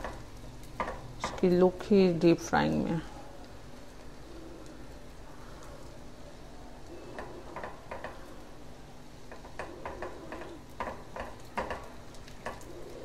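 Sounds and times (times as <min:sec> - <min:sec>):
food deep-frying in oil: 0:00.0 - 0:13.0
oil ticking and popping: 0:00.0 - 0:13.0.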